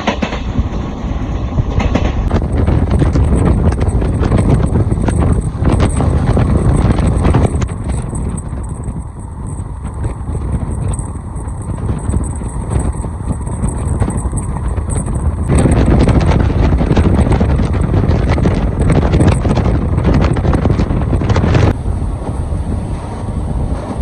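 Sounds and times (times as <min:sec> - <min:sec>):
train wheels rumbling: 0:00.0 - 0:24.0
wind buffeting microphone: 0:00.0 - 0:24.0
fast wheel clatter: 0:01.8 - 0:24.0.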